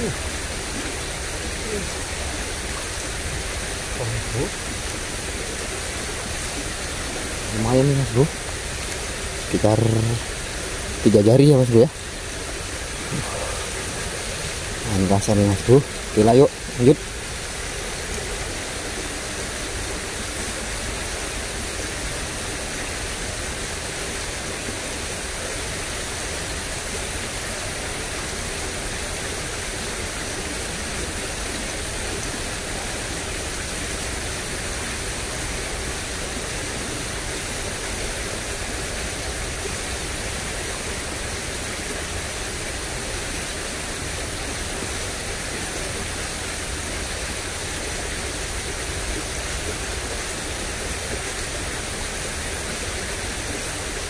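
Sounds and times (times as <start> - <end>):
flowing water in ditch: 0.0 - 54.0.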